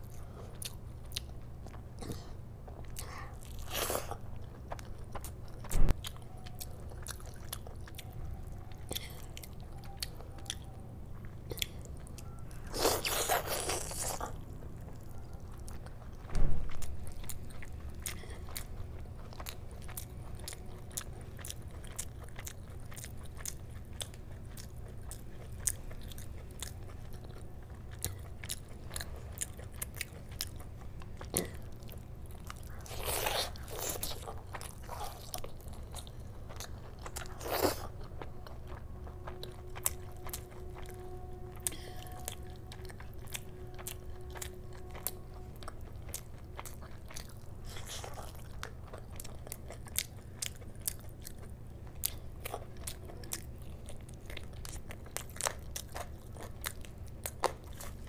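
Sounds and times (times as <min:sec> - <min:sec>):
person chewing with mouth clicks: 0:00.0 - 0:58.0
steady low hum: 0:00.0 - 0:58.0.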